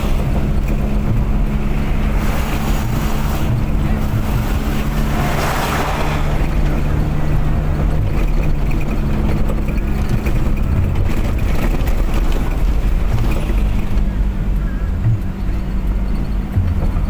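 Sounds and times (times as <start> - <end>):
car engine hum: 0.0 - 17.0
road and wind noise: 0.0 - 17.0.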